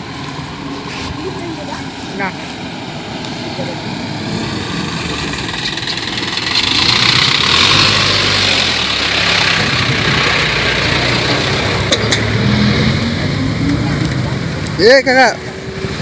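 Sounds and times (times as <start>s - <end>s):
passing traffic hum: 0.0s - 16.0s
truck driving past: 0.0s - 16.0s.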